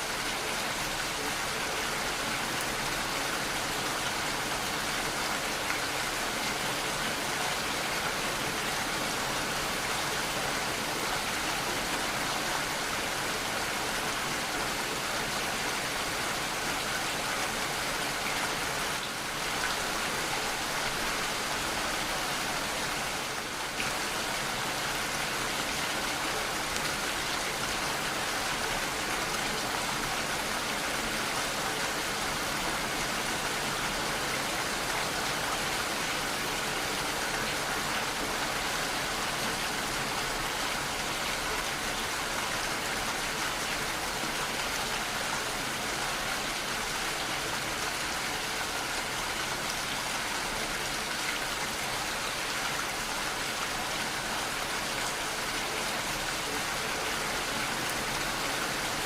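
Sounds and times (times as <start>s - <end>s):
heavy rainfall: 0.0s - 59.0s
raindrops on surfaces: 0.0s - 59.0s.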